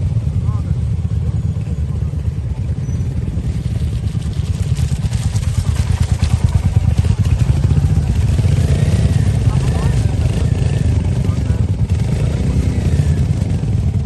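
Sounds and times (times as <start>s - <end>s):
motorcycle engines thumping: 0.0s - 14.0s.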